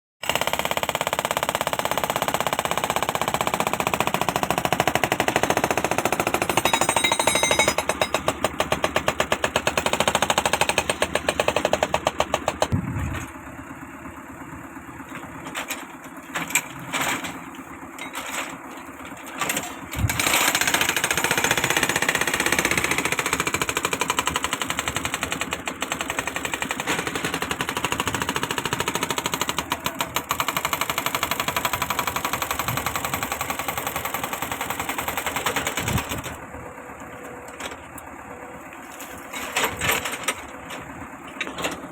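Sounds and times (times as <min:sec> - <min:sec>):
mini excavator diesel engine pulsing: 0:01.2 - 0:41.9.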